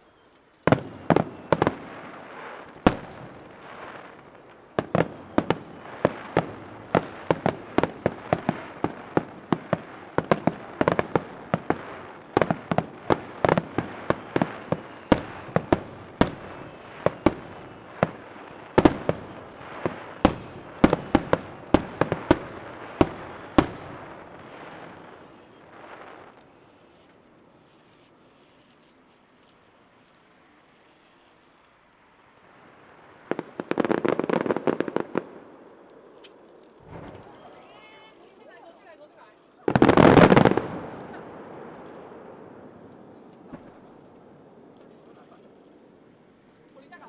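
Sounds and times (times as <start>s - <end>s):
fireworks crackle: 0.0s - 47.0s
fireworks bangs: 0.1s - 38.8s, 39.6s - 47.0s.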